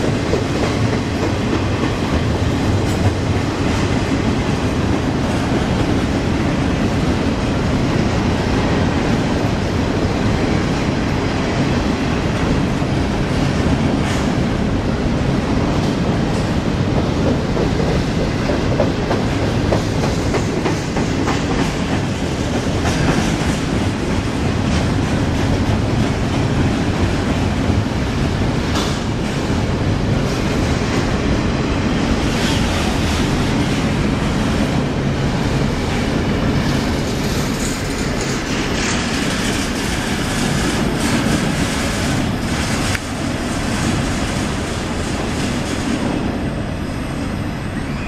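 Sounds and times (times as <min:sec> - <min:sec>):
steel wheels rumbling on rail: 0:00.0 - 0:48.0.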